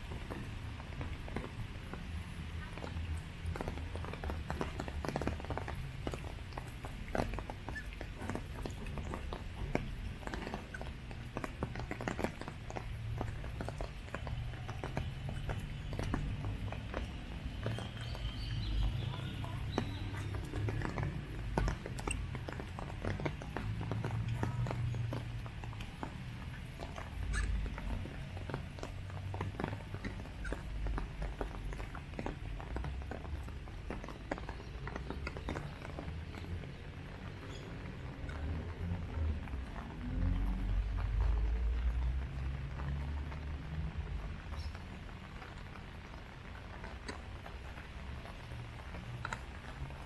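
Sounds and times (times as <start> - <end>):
footsteps on wet paving: 0.0 - 50.0
raindrops tapping: 0.0 - 50.0.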